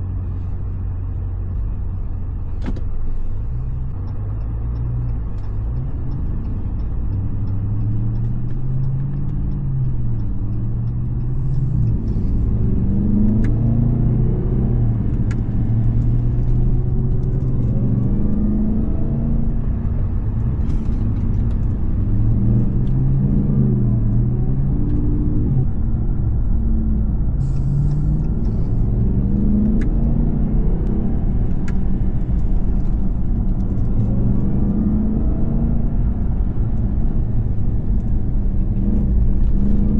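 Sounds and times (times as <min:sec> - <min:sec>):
truck engine revving while driving: 0:00.0 - 0:39.9.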